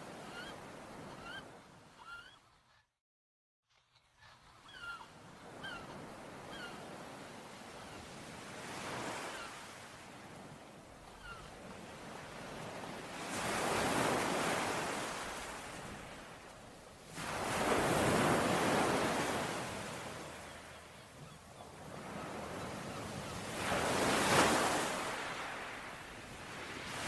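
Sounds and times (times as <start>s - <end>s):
ocean waves surging and washing: 5.1s - 27.0s.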